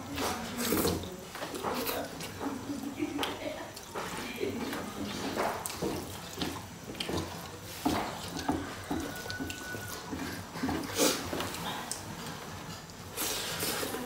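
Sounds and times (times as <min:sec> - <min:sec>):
lip-smacking and chewing: 0:00.6 - 0:14.0.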